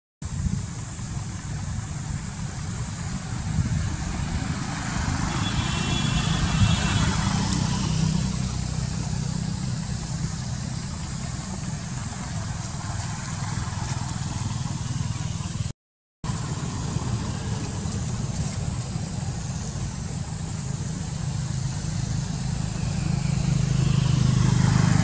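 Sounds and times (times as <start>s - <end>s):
low outdoor rumble: 0.2s - 25.0s.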